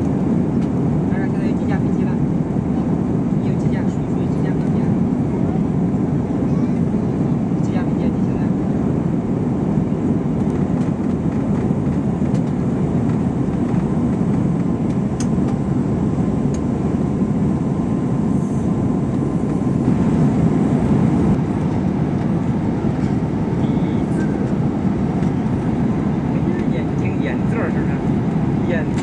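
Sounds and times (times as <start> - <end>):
jet engines rumbling: 0.0 - 29.0
airflow past fuselage: 4.6 - 29.0.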